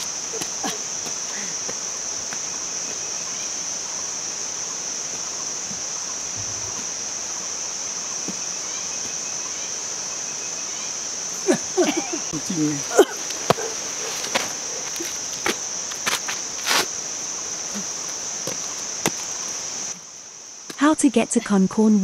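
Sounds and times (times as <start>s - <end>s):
high-pitched insect buzz: 0.0s - 20.8s.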